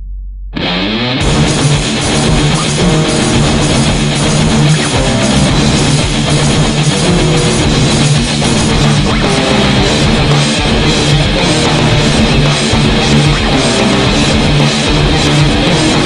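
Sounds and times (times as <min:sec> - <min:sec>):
electric guitar improvising: 0:00.6 - 0:16.0
heavy metal backing track with drums: 0:00.6 - 0:16.0.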